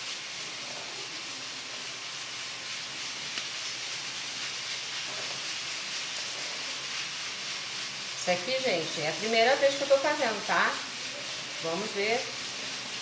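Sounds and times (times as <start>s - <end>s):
steam hissing from pressure cooker: 0.0s - 13.0s.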